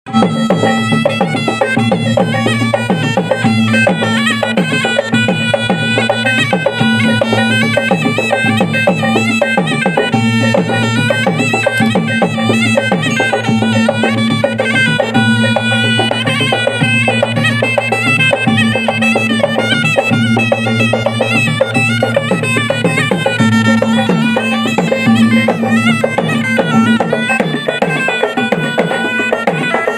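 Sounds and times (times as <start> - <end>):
drums beating lively rhythm: 0.1 - 29.9
reedy shawm melody: 0.1 - 29.9.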